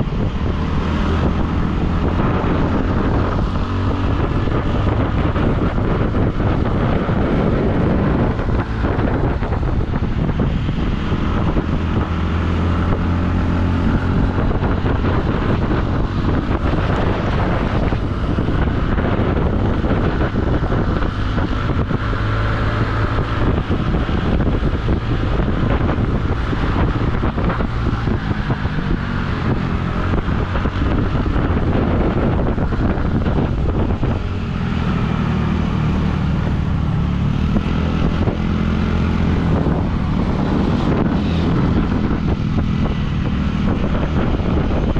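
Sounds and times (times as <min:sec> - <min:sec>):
vehicle engine running: 0:00.0 - 0:44.9
wind on microphone: 0:00.0 - 0:44.9.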